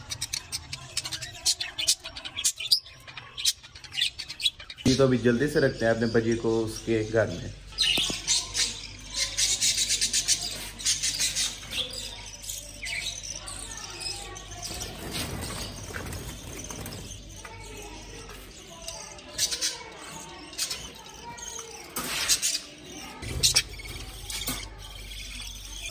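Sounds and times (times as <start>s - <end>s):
budgerigars chirping: 0.0s - 25.9s.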